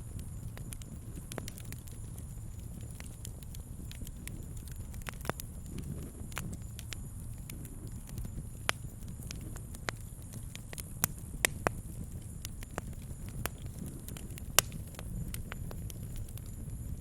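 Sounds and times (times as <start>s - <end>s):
campfire crackling and popping: 0.0s - 17.0s
low steady rumble: 0.0s - 17.0s.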